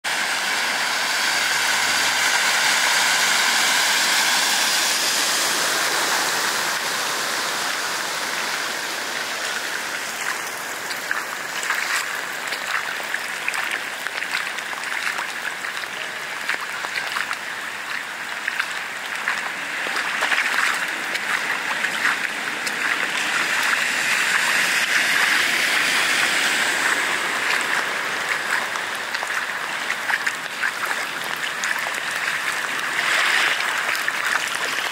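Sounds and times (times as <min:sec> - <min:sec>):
rain pouring on flooded street: 0:00.1 - 0:34.9.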